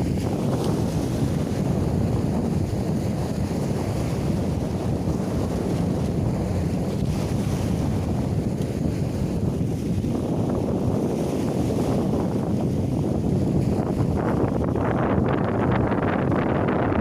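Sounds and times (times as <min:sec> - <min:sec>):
sea waves surging: 0:00.0 - 0:17.0
wind buffeting microphone: 0:00.0 - 0:17.0.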